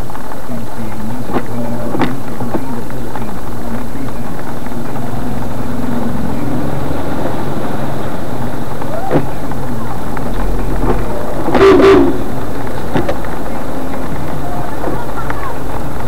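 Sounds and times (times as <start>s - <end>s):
traffic engines humming: 0.0s - 16.0s.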